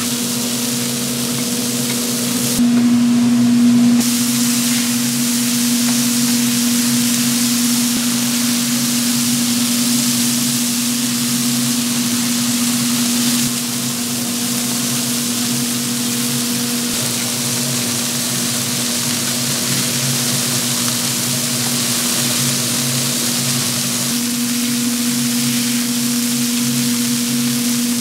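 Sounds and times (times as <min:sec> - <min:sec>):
even hiss: 0:00.0 - 0:28.0
machine hum: 0:00.0 - 0:28.0.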